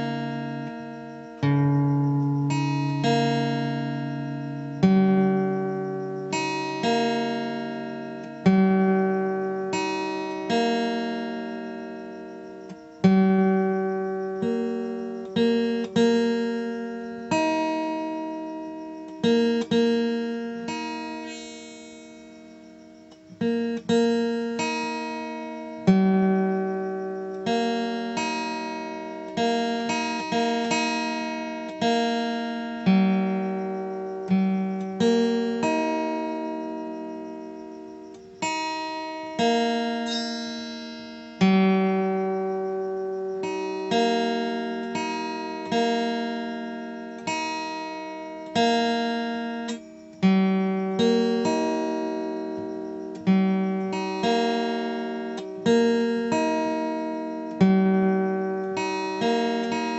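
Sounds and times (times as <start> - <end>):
slow plucked guitar melody: 0.0 - 59.9.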